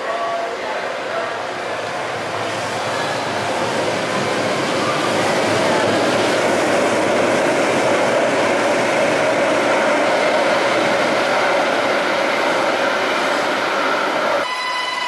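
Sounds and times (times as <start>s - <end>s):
train wheels rumbling on rail: 0.7s - 15.0s.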